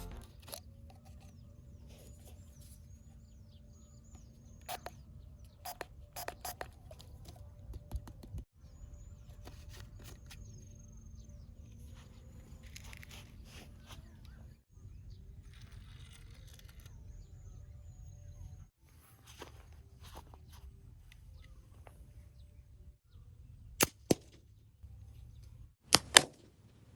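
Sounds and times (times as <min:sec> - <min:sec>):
faint birds chirping: 0:00.7 - 0:07.9, 0:08.6 - 0:23.7.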